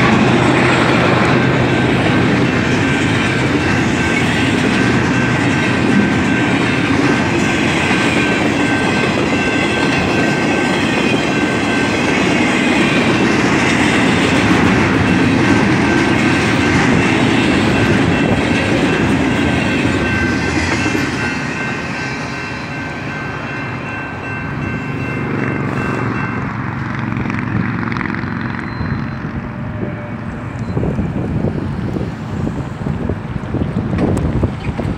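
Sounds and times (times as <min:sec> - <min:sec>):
freight train rumble: 0:00.0 - 0:34.9.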